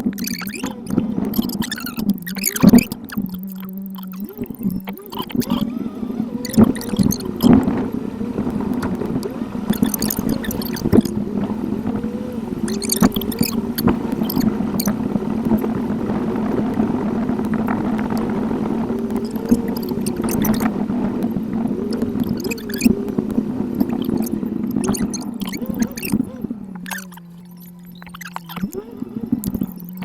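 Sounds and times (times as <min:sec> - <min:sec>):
sharp clicks: 0:00.0 - 0:12.0, 0:12.6 - 0:15.8, 0:16.5 - 0:30.0
sped-up car driving drone: 0:00.0 - 0:30.0.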